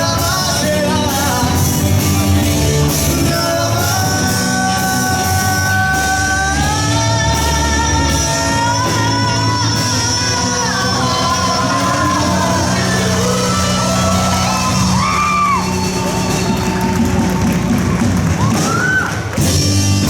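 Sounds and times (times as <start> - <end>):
person singing: 0.0 - 17.0
live rock band playing: 0.0 - 20.0.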